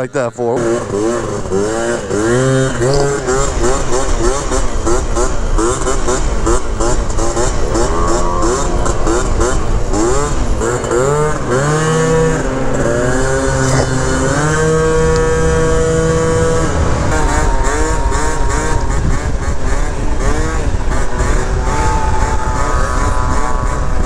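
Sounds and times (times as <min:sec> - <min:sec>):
scooter engine revving: 0:00.6 - 0:24.0
wind buffeting microphone: 0:02.3 - 0:24.0.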